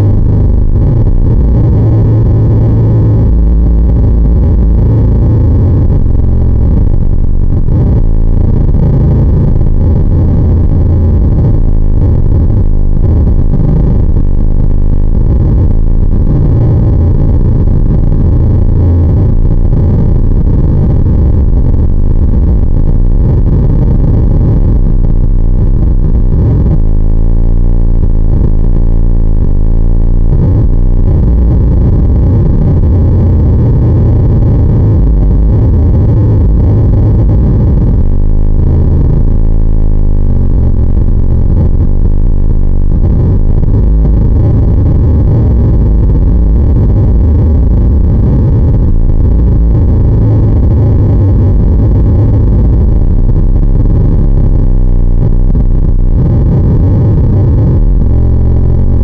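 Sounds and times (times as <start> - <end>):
distorted low droning noise: 0.0 - 59.0.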